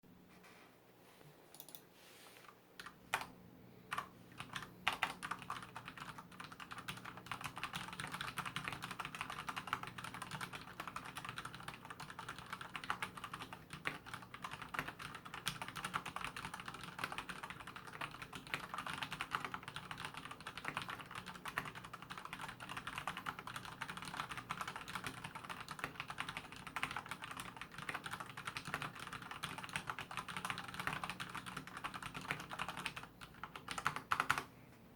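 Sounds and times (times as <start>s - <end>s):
mechanical keyboard typing: 1.6s - 1.8s, 2.8s - 3.3s, 3.9s - 34.5s.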